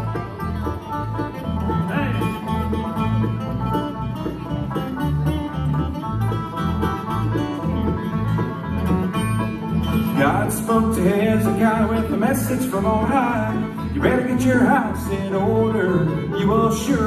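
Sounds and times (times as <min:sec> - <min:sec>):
banjo picking: 0:00.0 - 0:17.0
bluegrass band playing: 0:00.0 - 0:17.0
fiddle: 0:00.0 - 0:17.0
upright bass beat: 0:00.0 - 0:17.0.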